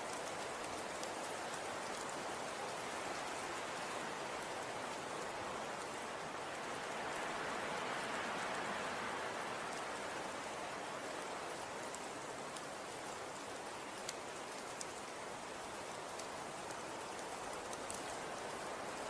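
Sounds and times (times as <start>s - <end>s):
faint ticks of snow pellets: 0.0s - 19.0s.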